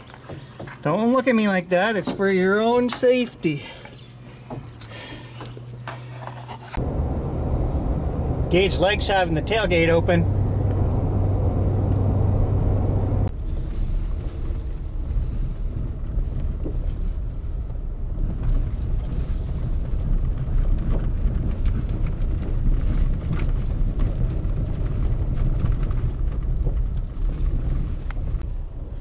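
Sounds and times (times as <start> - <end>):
truck driving on gravel road: 2.9 - 29.0.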